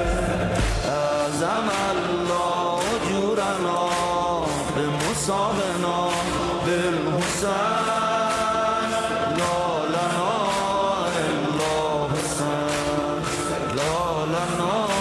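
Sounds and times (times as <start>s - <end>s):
many voices chanting: 0.0s - 15.0s
steady beat: 0.0s - 15.0s.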